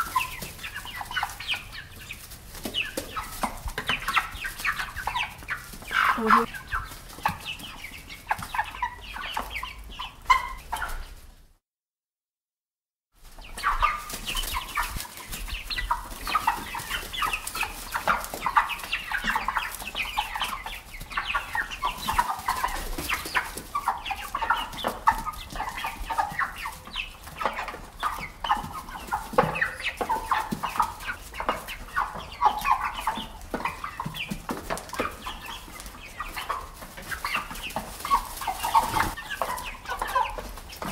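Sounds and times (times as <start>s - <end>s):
hens clucking: 0.0s - 11.5s, 13.2s - 40.9s.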